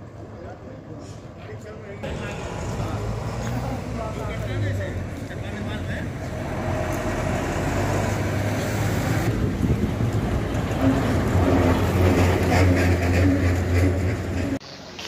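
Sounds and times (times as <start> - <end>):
vehicle engines running: 0.0 - 14.6
street noise: 0.0 - 15.0.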